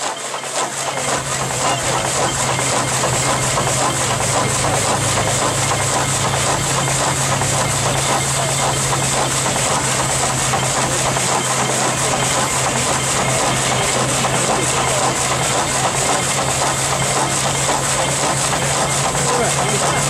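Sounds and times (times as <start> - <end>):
continuous steam hiss: 0.0 - 20.0
sawmill machinery humming: 0.0 - 20.0.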